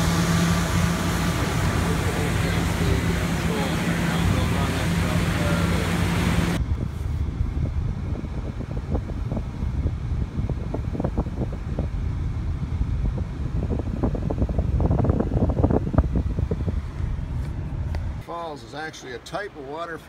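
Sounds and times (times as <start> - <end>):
car driving on highway rumble: 0.0 - 18.2
motorboat engine hum: 0.0 - 20.0.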